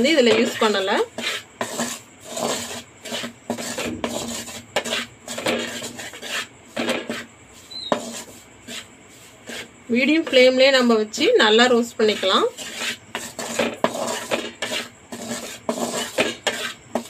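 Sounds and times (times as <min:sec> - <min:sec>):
wooden spatula scraping flour in pan: 0:00.0 - 0:17.0.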